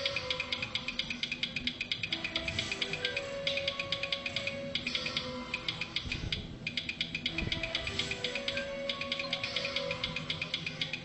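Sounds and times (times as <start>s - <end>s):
slot machine ticking chimes: 0.0s - 11.0s.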